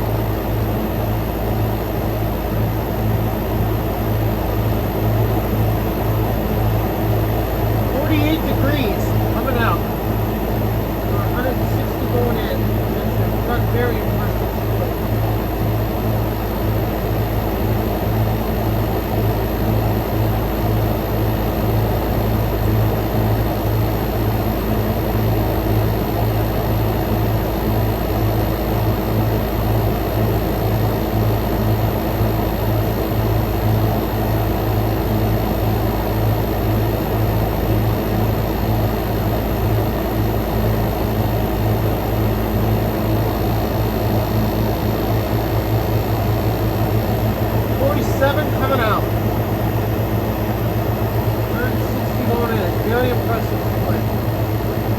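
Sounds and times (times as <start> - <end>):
air conditioner fans rushing: 0.0 - 54.9
compressor hum: 0.0 - 54.9.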